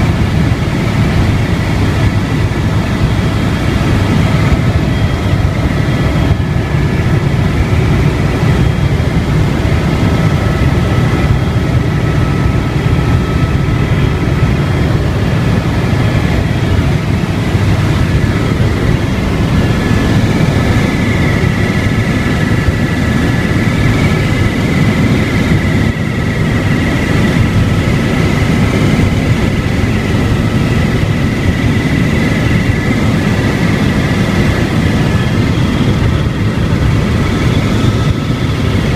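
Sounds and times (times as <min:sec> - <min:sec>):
helicopter rotor and turbine drone: 0:00.0 - 0:38.9
thin turbine whine: 0:00.0 - 0:38.9.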